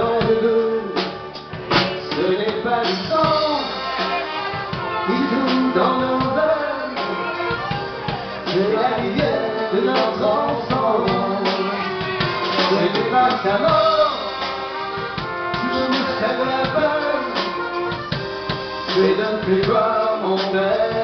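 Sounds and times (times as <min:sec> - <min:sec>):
drum kit beat: 0:00.0 - 0:21.0
guitar: 0:00.0 - 0:21.0
person singing: 0:00.0 - 0:21.0.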